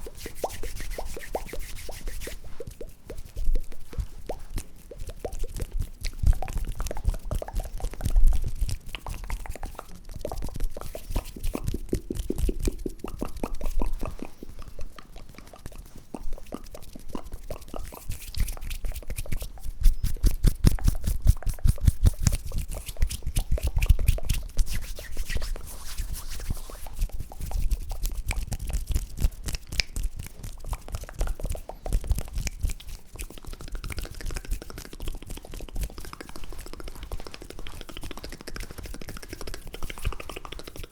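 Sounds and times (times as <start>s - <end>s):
wet mouth clicks and pops: 0.1s - 40.9s.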